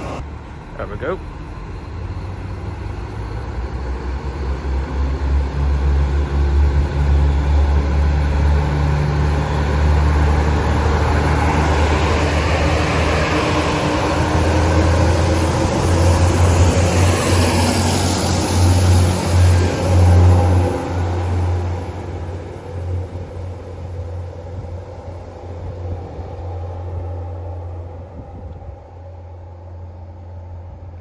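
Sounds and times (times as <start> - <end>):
rushing noise of moving train: 0.0 - 31.0
train diesel engines droning: 0.0 - 31.0.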